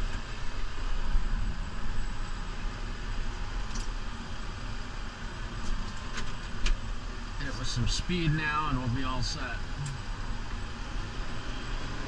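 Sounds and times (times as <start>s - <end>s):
tractor diesel engine rumble: 0.0s - 12.0s.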